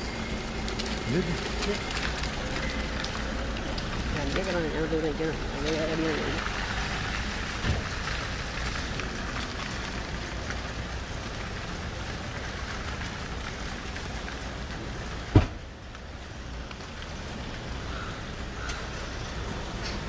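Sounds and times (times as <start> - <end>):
rain on wet pavement: 0.0 - 20.0.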